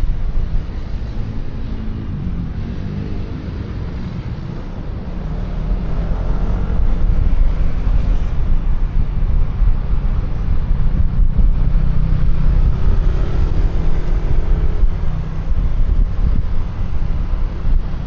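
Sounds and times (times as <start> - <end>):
low wind rumble: 0.0 - 18.0
road noise: 0.0 - 18.0.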